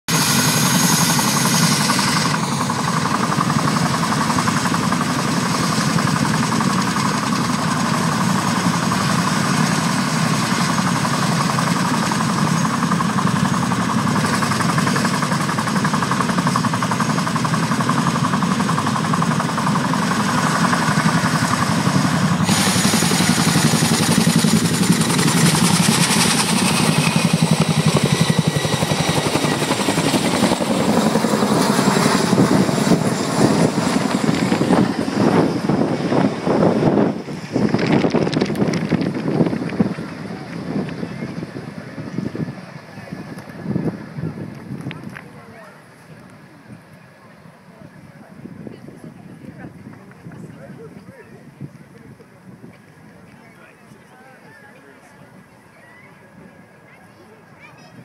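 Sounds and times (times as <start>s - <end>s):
turbine whine: 0.1s - 57.5s
helicopter rotor beat: 0.1s - 58.0s.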